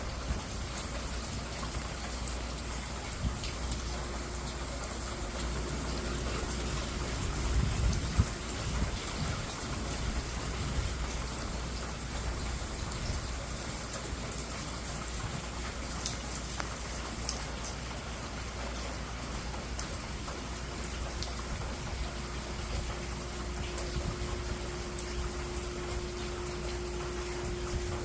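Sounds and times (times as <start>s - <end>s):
raindrops ticking: 0.0s - 28.0s
steady rain falling: 0.0s - 28.0s.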